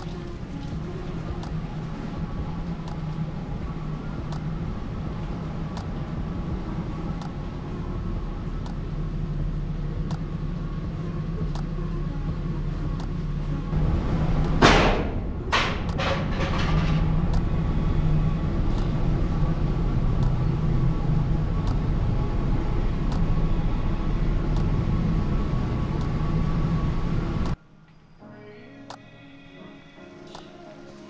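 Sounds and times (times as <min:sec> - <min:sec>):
truck engine rumbling: 0:00.0 - 0:27.6.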